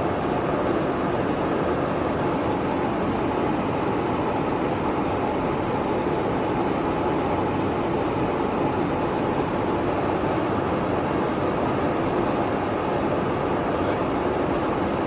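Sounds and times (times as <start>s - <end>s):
aircraft cabin engine noise: 0.0s - 15.0s.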